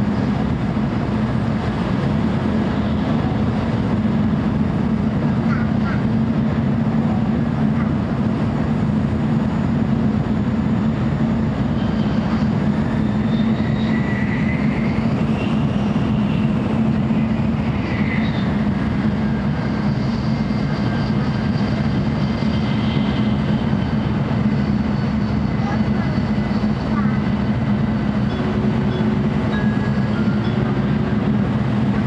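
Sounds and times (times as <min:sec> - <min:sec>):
train cabin rumble and hum: 0:00.0 - 0:32.0.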